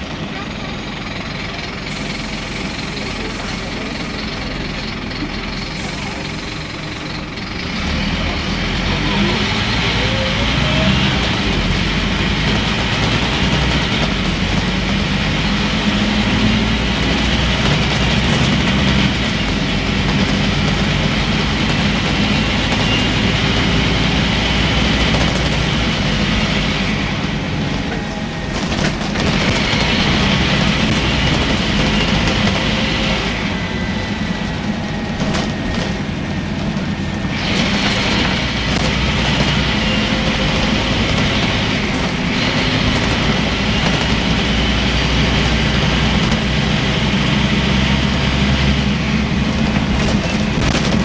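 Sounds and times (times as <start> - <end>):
bus engine running: 0.0 - 51.0
road and body rattle: 0.0 - 51.0.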